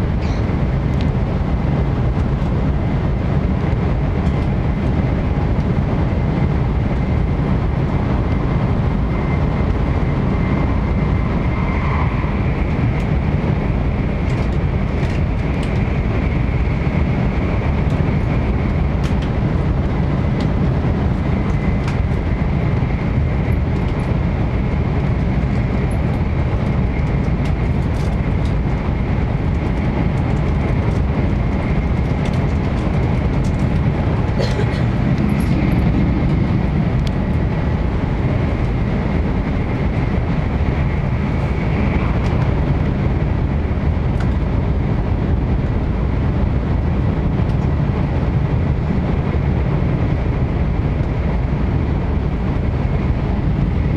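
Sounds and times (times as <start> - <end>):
train rumbling: 0.0 - 53.9.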